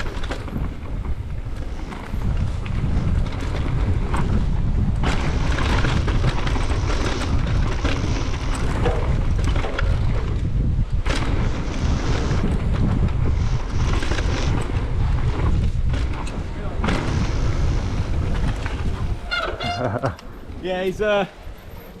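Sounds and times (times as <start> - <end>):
tyres rolling over dirt trail: 0.0 - 22.0
wind buffeting microphone: 0.0 - 22.0.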